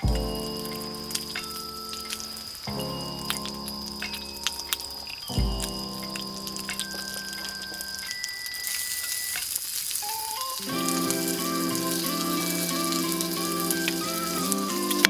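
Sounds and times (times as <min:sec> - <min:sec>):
background music: 0:00.0 - 0:08.9, 0:10.0 - 0:15.0
food sizzling in a hot pan: 0:00.0 - 0:15.0.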